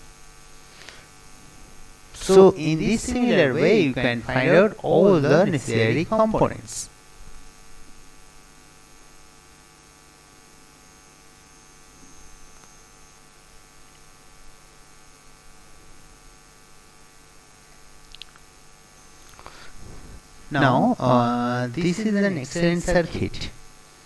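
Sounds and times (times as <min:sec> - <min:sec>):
electrical hum with hiss: 0:00.0 - 0:24.0.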